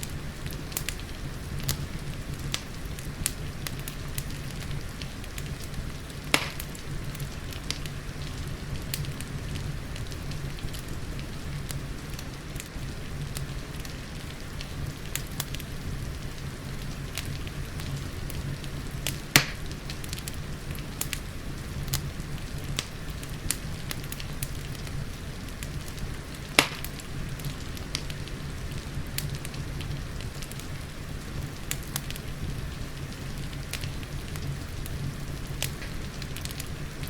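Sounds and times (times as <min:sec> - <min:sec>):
rain pattering: 0:00.0 - 0:37.0
sharp pops of fire: 0:00.0 - 0:37.0
wood fire crackling: 0:00.0 - 0:37.0.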